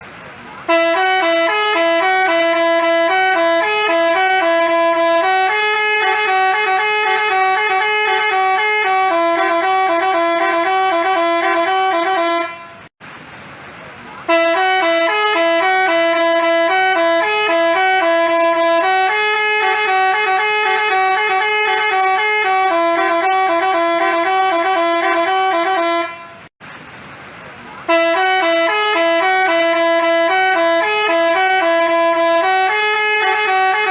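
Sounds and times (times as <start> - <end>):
bus horn playing a jingle: 0.6 - 12.9, 14.3 - 26.5, 27.9 - 33.9.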